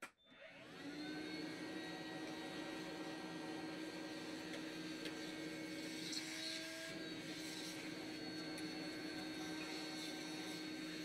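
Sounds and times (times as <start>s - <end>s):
handheld vacuum motor whine: 0.3s - 11.0s.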